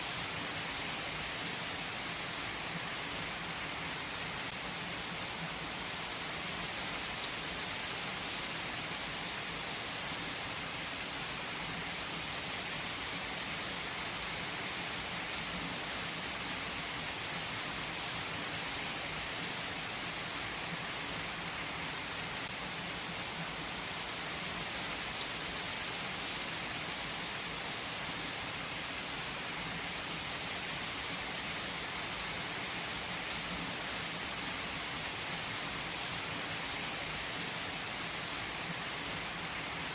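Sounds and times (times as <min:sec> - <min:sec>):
heavy rain on trees: 0:00.0 - 0:39.9.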